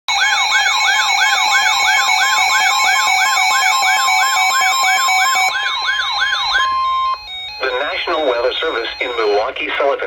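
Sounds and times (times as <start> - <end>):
rising and falling siren tone: 0.1 - 9.5
steady warning tone: 0.1 - 10.0.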